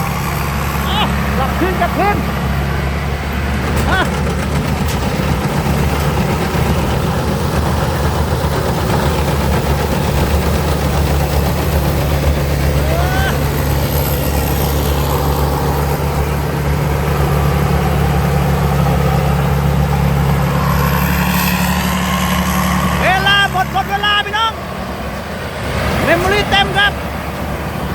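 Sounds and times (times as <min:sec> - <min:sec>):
combine harvester diesel engine droning: 0:00.0 - 0:27.9.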